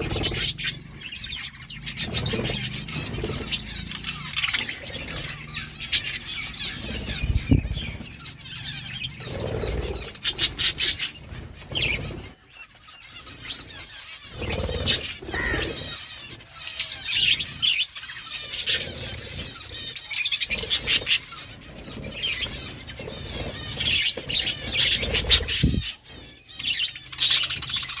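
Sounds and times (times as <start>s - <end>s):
budgerigars chirping: 0.0s - 28.0s.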